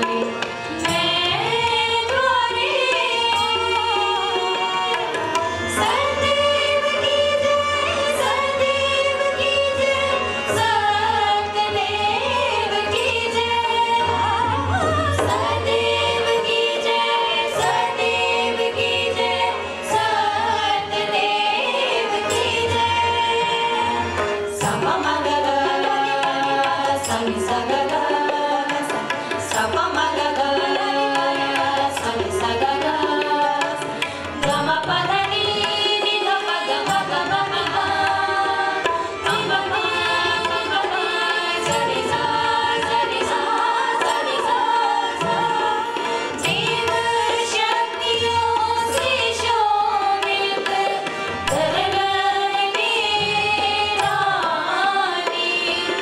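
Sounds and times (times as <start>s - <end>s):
harmonium: 0.0s - 56.0s
women singing a devotional song: 0.0s - 56.0s.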